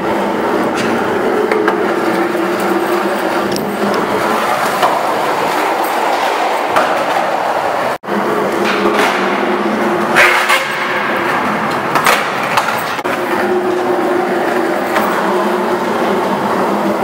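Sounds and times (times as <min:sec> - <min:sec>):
skateboard wheels rolling on concrete: 0:00.0 - 0:17.0
skateboard clacks: 0:00.7 - 0:17.0.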